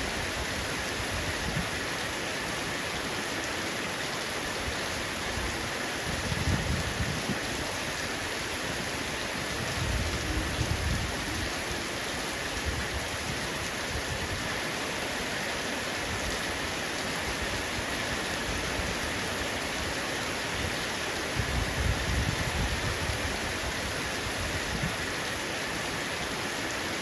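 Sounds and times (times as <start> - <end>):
heavy rain on a roof: 0.0 - 27.0.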